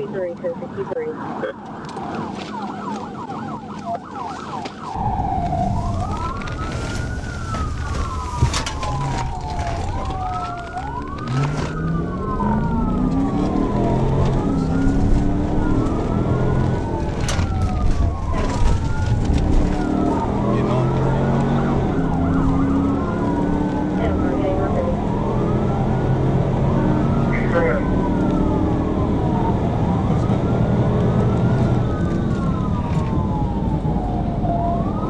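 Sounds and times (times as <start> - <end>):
police sirens yelping and wailing: 0.0 - 35.0
road noise: 0.0 - 35.0
car engine accelerating: 5.0 - 35.0.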